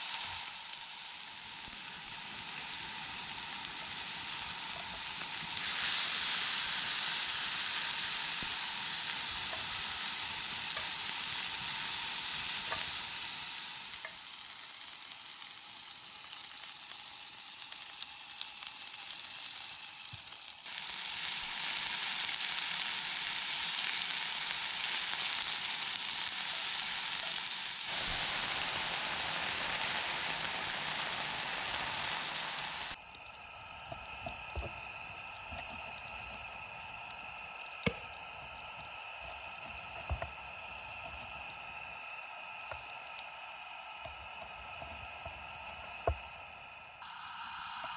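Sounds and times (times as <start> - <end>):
food sizzling in frying pan: 0.0 - 47.9.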